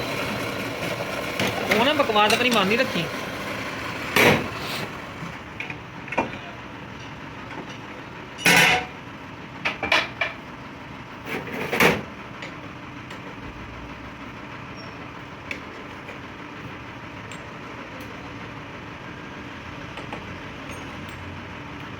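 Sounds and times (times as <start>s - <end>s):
workshop machinery running: 0.0s - 21.9s.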